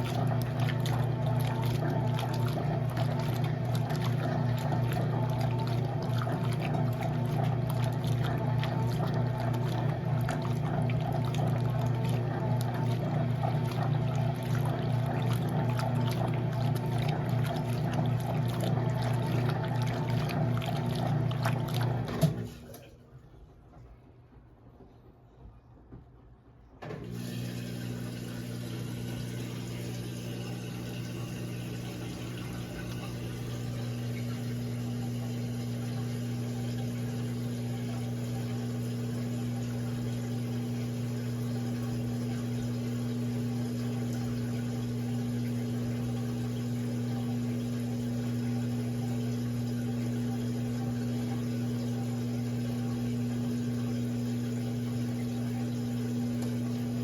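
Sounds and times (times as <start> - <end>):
water noise: 0.0 - 23.0, 26.8 - 57.0
washing machine humming: 0.0 - 57.0.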